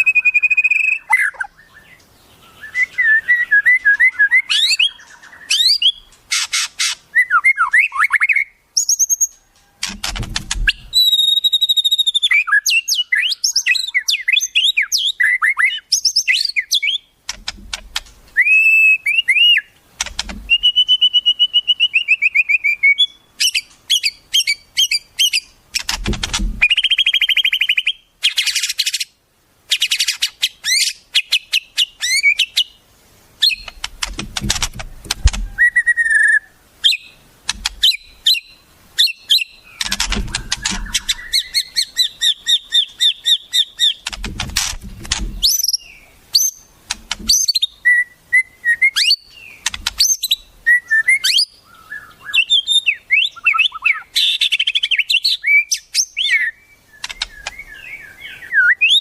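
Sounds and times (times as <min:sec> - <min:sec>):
songbird whistles and trills: 0:00.0 - 0:17.2, 0:18.3 - 0:26.0, 0:26.6 - 0:32.8, 0:33.4 - 0:44.2, 0:45.2 - 0:59.0.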